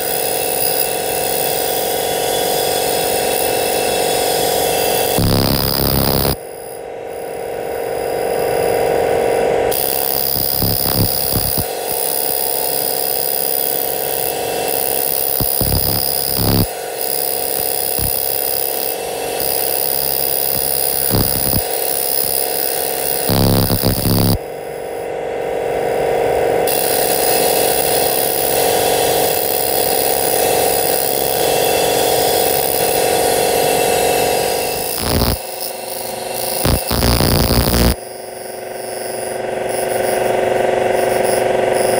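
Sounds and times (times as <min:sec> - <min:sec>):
laser cleaning machine hum and whine: 0:00.0 - 0:41.9.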